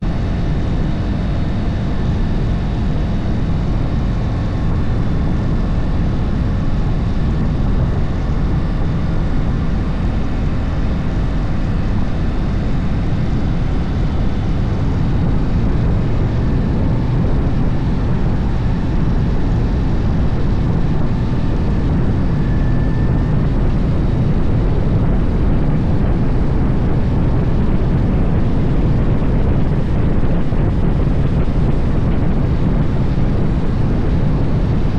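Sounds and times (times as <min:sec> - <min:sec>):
motorcycle engine running: 0:00.0 - 0:34.9
wind rumble on microphone: 0:00.0 - 0:34.9.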